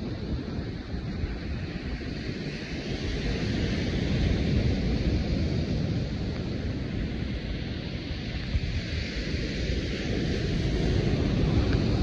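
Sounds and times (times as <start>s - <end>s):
wind and surf hiss: 0.0s - 12.0s
wind buffeting microphone: 0.0s - 12.0s.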